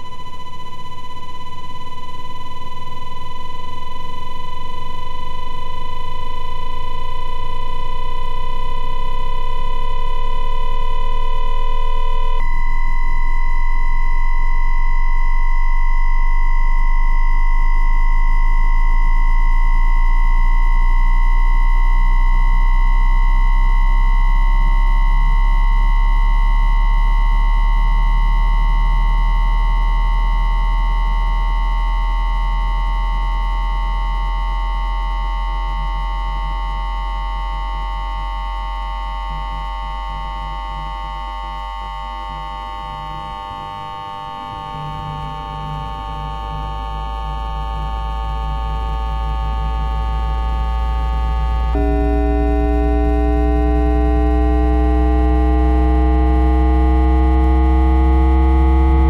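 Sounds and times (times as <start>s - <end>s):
low hum: 0.0s - 32.8s, 42.2s - 59.0s
electronic inverter whine: 0.0s - 59.0s.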